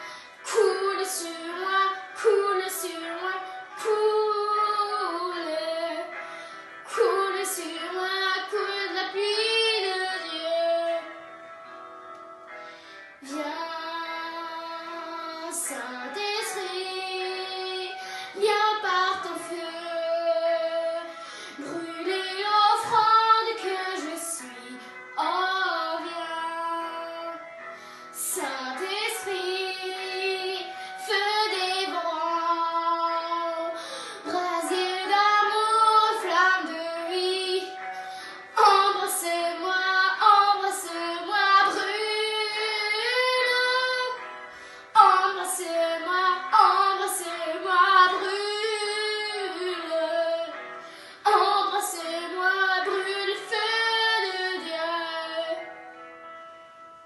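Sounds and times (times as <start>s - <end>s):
girl singing: 0.0s - 6.2s, 6.8s - 11.2s, 13.2s - 44.3s, 44.9s - 55.7s.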